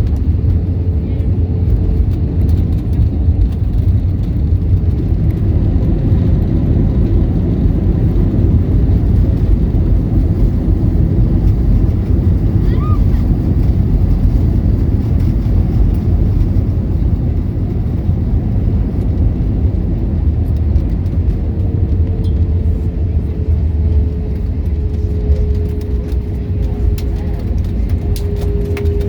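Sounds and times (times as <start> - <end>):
jet cabin engine rumble: 0.0 - 29.0.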